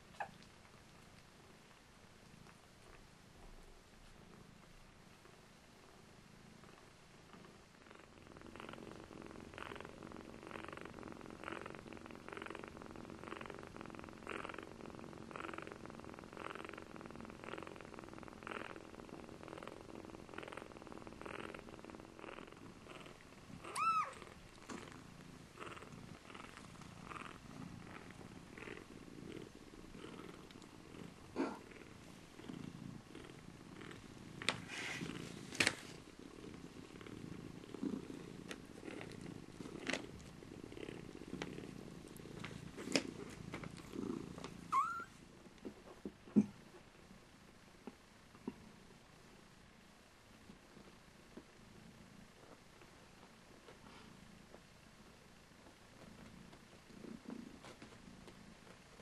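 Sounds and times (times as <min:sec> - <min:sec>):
cats purring: 0:00.0 - 0:59.0.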